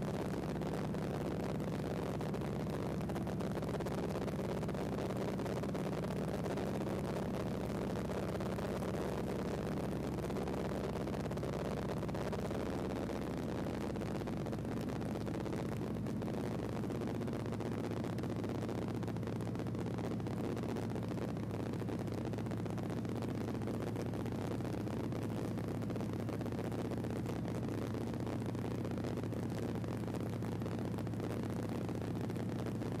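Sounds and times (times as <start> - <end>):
propeller engine droning: 0.0 - 33.0.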